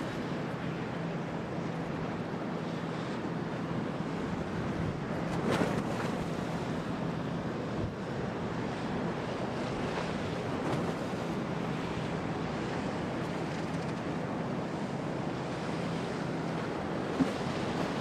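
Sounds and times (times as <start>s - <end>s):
storm waves washing: 0.0s - 18.0s.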